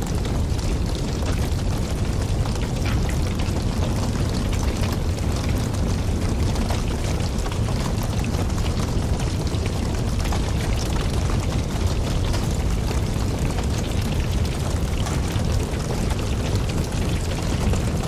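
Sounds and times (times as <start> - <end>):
burning wood crackling: 0.0 - 18.0
campfire flames rumbling: 0.0 - 18.0.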